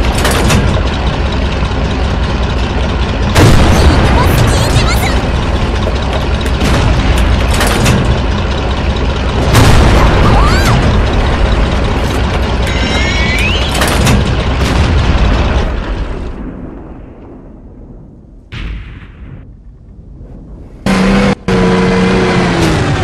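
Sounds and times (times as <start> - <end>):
booming rumble: 0.0 - 23.0.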